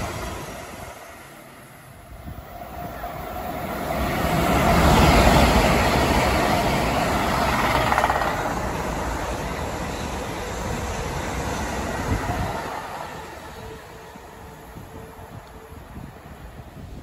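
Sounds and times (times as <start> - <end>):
train passing close by: 0.0 - 17.0.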